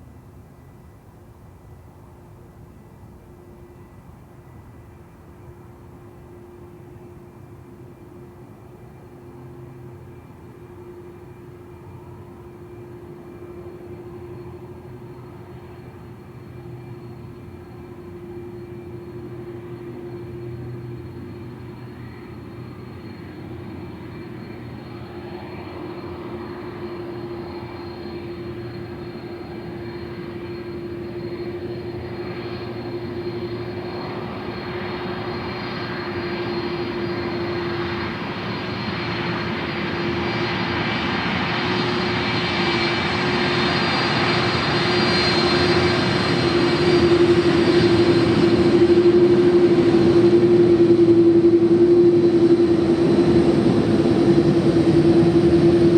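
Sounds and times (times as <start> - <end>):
aircraft engines humming: 3.0 - 55.9
high engine whine: 9.6 - 55.9.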